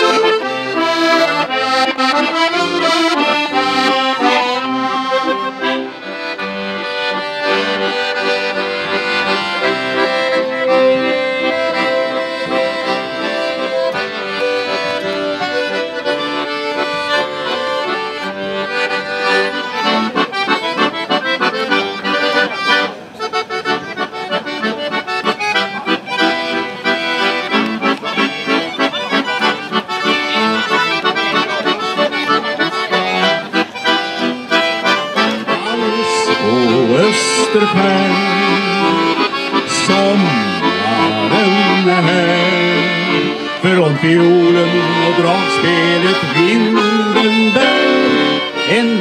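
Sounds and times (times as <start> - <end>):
accordions playing folk tune: 0.0 - 49.0.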